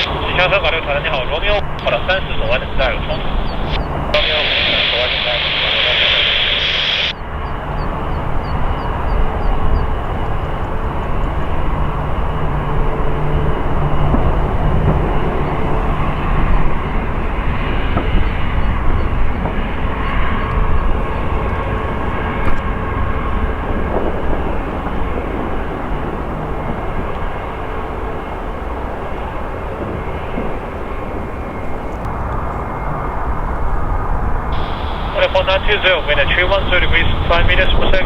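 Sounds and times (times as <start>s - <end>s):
jet airliner engines rumbling: 0.0s - 38.0s.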